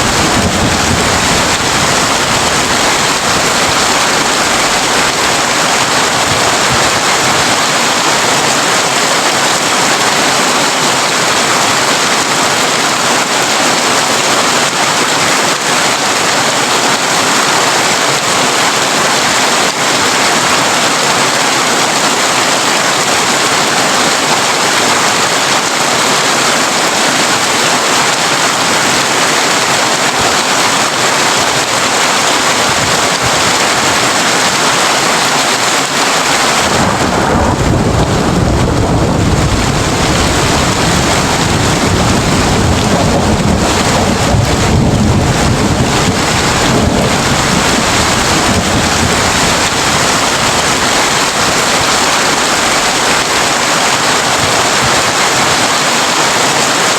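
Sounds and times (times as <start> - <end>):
heavy rain on a tin roof: 0.0 - 56.9.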